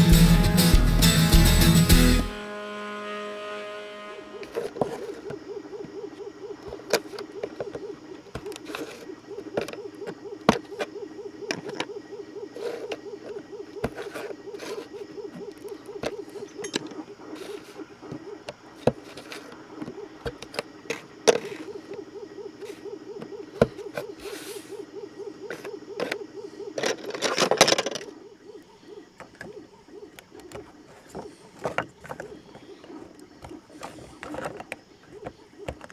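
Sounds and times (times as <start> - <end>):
steady wavering hum: 2.0 - 35.9.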